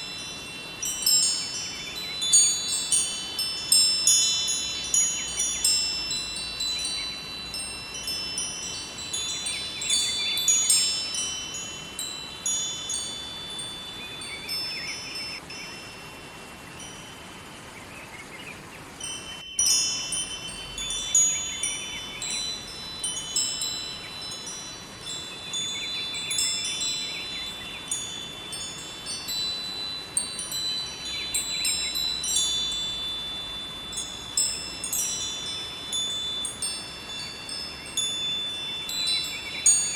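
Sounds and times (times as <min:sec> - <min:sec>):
metal wind chimes ringing: 0:00.0 - 0:17.6, 0:19.0 - 0:39.9
river water flowing: 0:00.0 - 0:39.9.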